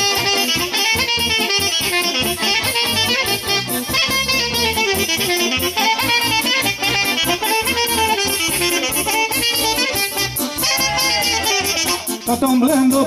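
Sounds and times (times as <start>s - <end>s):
band accompaniment: 0.0s - 13.0s
saxophone melody: 0.0s - 13.0s.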